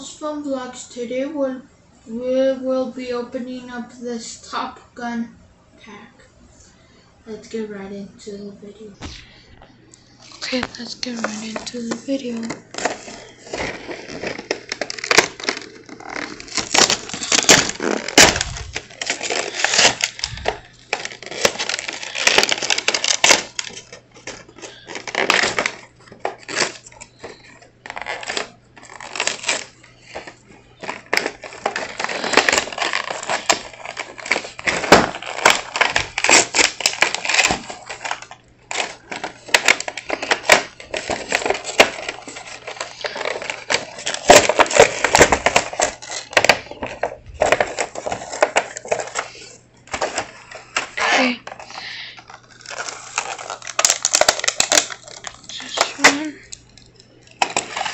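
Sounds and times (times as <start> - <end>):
packaging tearing and crinkling: 10.2 - 57.9.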